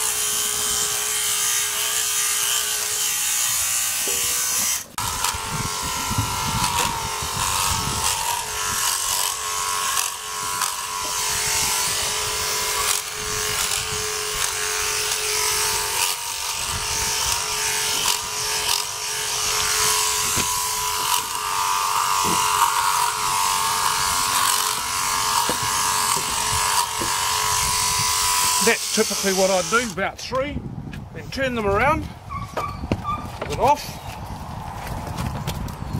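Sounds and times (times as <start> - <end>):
electric clipper buzzing: 0.0 - 30.0.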